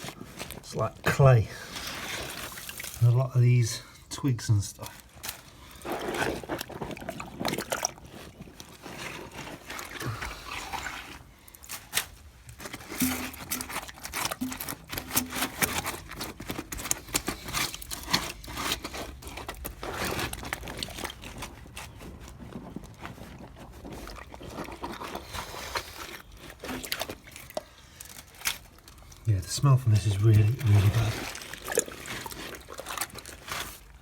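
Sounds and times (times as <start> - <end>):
wet scraping of silt: 0.0 - 34.0.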